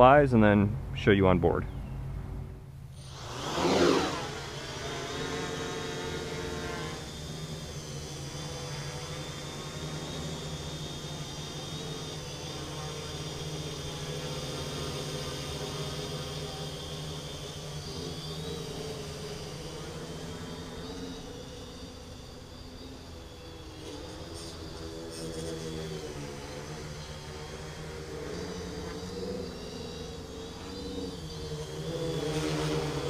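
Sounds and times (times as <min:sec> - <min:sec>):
quadcopter motors whining: 0:01.7 - 0:33.0.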